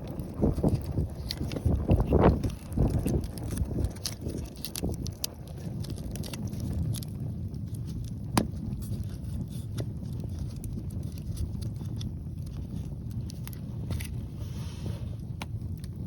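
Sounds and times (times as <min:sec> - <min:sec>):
strong wind on microphone: 0:00.0 - 0:16.0
wood fire crackling and popping: 0:00.0 - 0:16.0.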